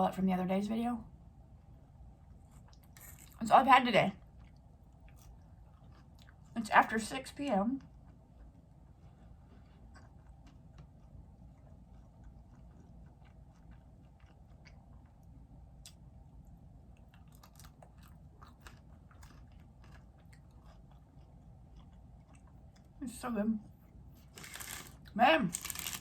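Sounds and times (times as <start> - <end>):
chewing crusty bread: 1.6 - 3.5, 4.1 - 23.0, 23.7 - 26.0.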